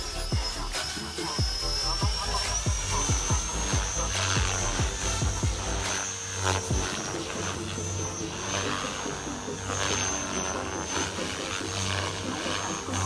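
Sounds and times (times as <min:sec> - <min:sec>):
rc helicopter motor whine: 0:00.0 - 0:13.0
rotor buzzing: 0:00.0 - 0:13.0.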